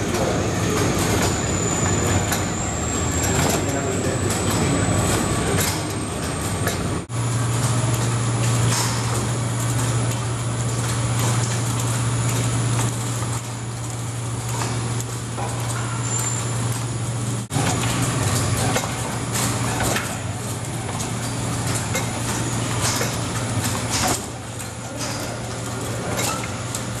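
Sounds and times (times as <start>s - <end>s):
machine humming and hissing: 0.0s - 27.0s.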